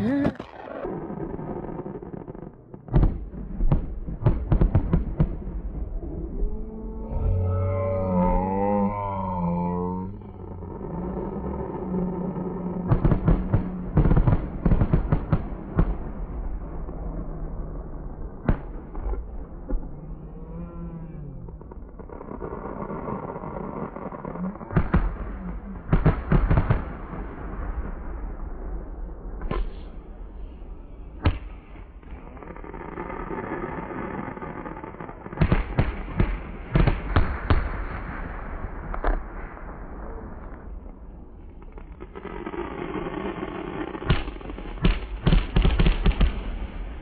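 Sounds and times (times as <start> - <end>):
fireworks bangs and crackles: 0.0 - 8.4, 9.2 - 47.0.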